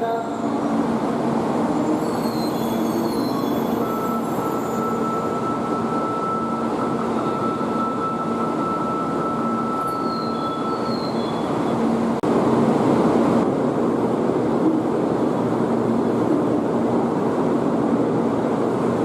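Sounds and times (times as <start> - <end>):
train rushing hum: 0.0 - 19.0.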